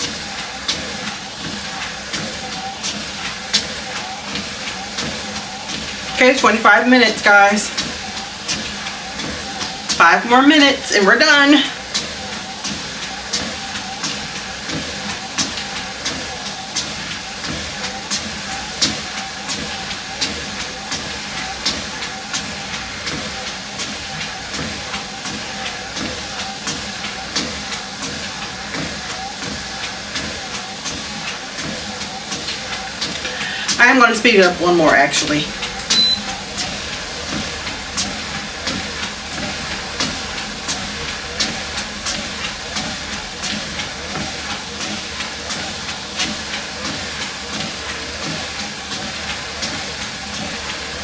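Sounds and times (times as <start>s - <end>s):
footfalls on treadmill belt: 0.0s - 10.6s, 11.2s - 51.0s
treadmill motor humming: 0.0s - 51.0s.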